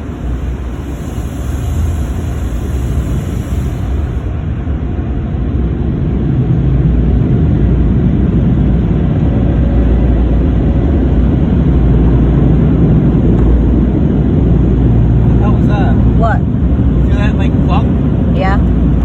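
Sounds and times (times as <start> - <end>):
car wash machinery rumbling: 0.0 - 19.0.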